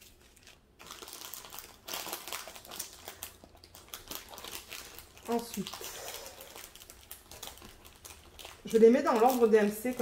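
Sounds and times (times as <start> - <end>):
plastic zip bags crinkling: 0.0 - 10.0.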